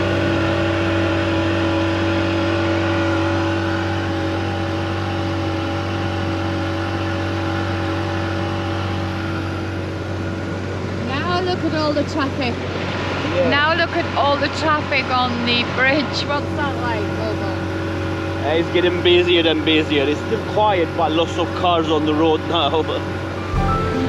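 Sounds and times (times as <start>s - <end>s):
steady engine drone: 0.0s - 24.0s.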